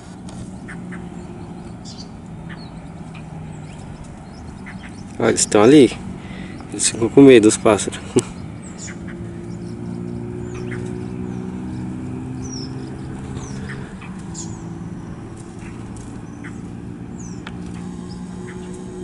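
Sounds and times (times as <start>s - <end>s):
bird alarm calls: 0.4s - 19.0s.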